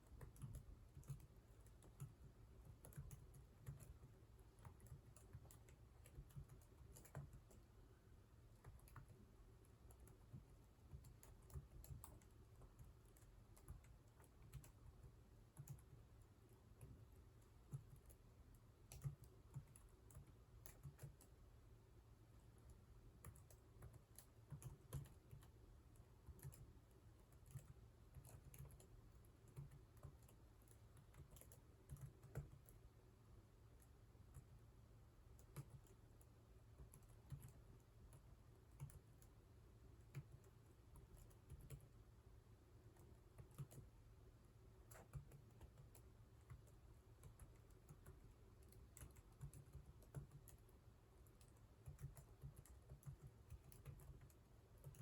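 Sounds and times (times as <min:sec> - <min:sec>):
computer keyboard typing: 0:00.0 - 0:21.5, 0:22.5 - 0:32.9, 0:35.3 - 0:42.0, 0:42.9 - 0:44.0, 0:44.8 - 0:55.0.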